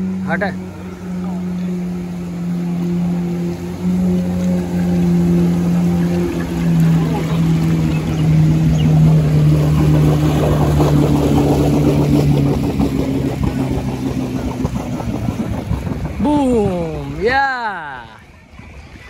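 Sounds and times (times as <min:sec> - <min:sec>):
van engine humming: 0:00.0 - 0:18.2
water sloshing and splashing: 0:00.0 - 0:19.0.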